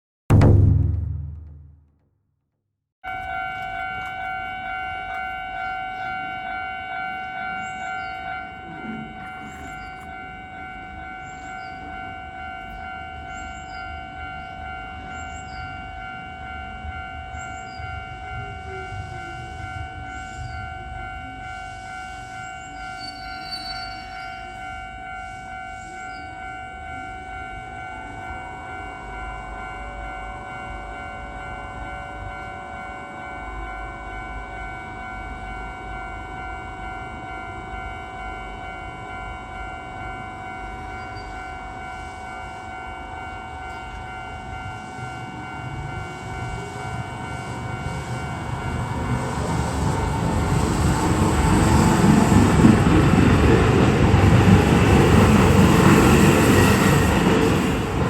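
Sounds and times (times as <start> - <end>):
level crossing warning bell: 3.0 - 58.0
train wheels rumbling on rails: 3.1 - 31.5, 35.8 - 58.0.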